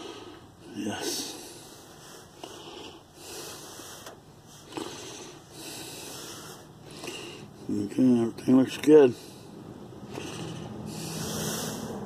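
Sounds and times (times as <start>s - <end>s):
man breathing heavily: 0.0s - 7.7s, 9.1s - 12.0s.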